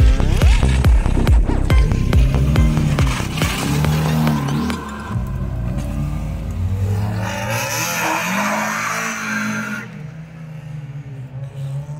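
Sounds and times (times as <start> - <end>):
car engine revving hard: 0.0 - 10.0.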